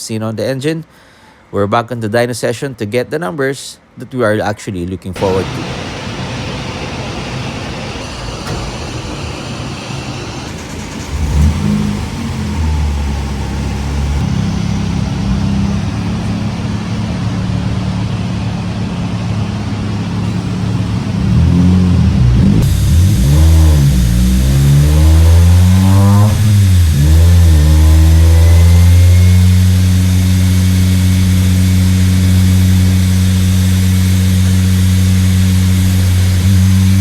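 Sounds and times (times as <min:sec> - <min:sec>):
car engine running under load: 0:05.2 - 0:37.0.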